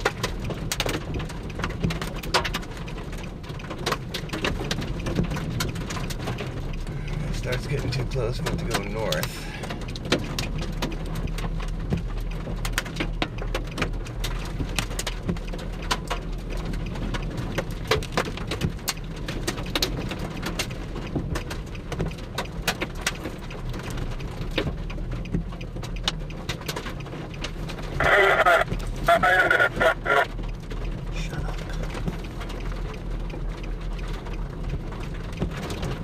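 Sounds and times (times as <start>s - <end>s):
heavy raindrops tapping: 0.0s - 36.0s.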